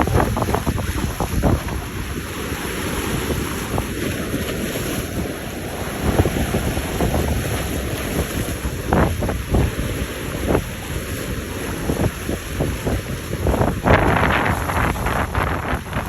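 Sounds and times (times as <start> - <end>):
boats passing: 0.0 - 16.0
rushing water: 0.0 - 16.0
wind buffeting microphone: 0.0 - 16.0.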